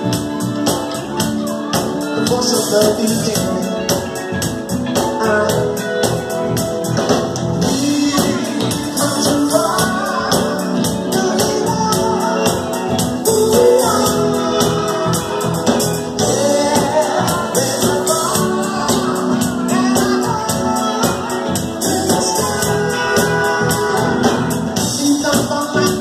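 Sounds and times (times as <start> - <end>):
drums: 0.0 - 26.0
guitar: 0.0 - 26.0
singer: 0.0 - 26.0.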